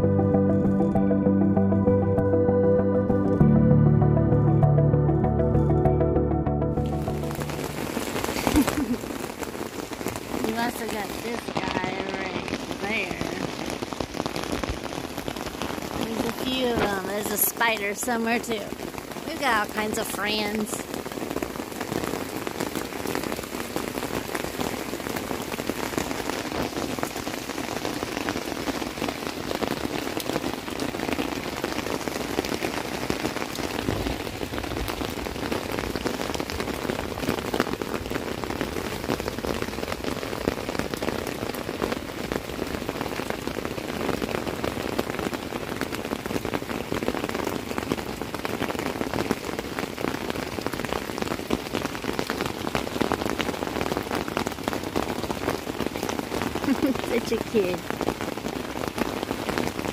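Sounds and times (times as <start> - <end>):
rain on tent fabric: 6.6 - 59.9.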